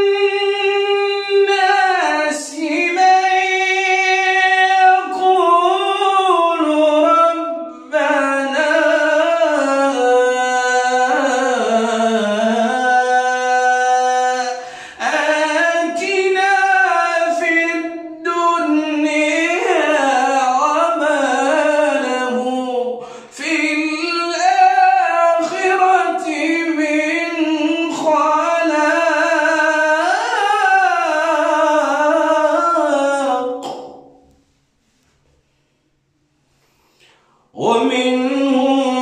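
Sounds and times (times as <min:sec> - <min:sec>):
man chanting melodically: 0:00.0 - 0:34.2, 0:37.6 - 0:39.0.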